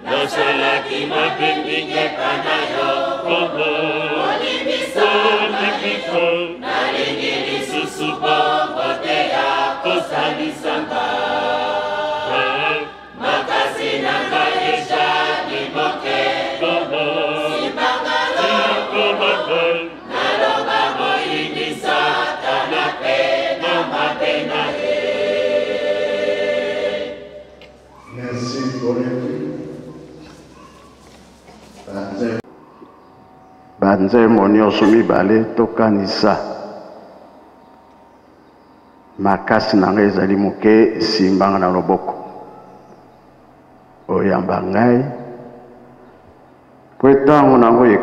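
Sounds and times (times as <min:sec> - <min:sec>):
church choir singing: 0:00.0 - 0:48.0.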